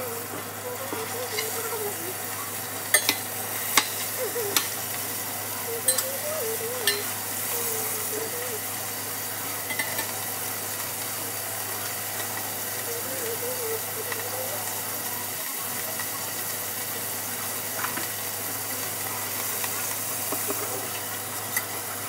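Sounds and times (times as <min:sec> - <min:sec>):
ground beef sizzling: 0:00.0 - 0:22.0.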